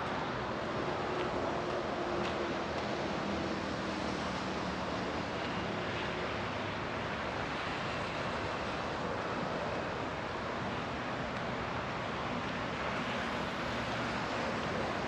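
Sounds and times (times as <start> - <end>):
distant traffic: 0.0 - 15.0
wind: 0.0 - 15.0.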